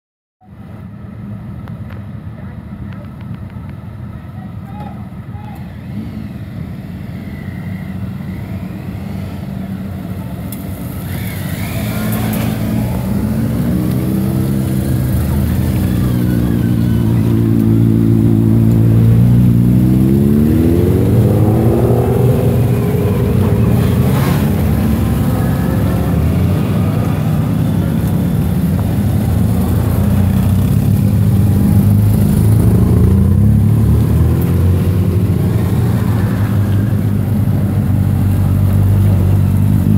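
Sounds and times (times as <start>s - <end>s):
motorcycle engines revving: 5.1s - 39.9s.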